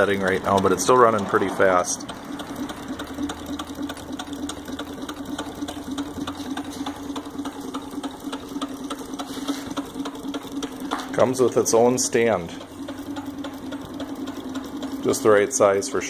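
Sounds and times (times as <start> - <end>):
hot air engine clattering: 0.0 - 16.0.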